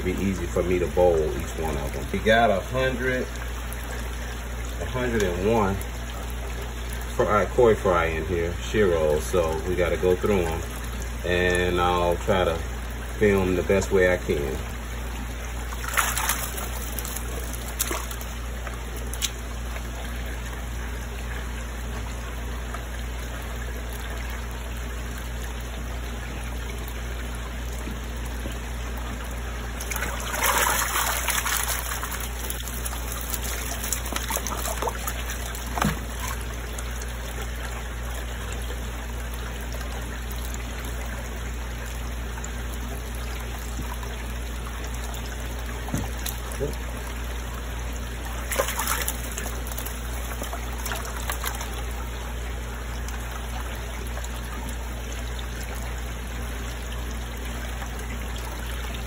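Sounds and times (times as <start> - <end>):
water trickling into tub: 0.0 - 59.0.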